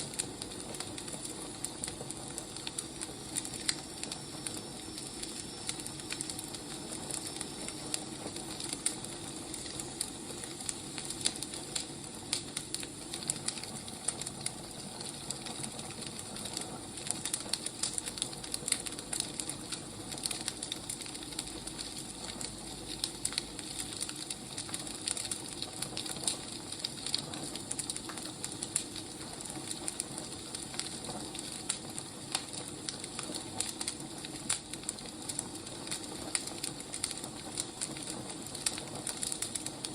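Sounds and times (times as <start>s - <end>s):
firewood burning and crackling: 0.0s - 39.9s.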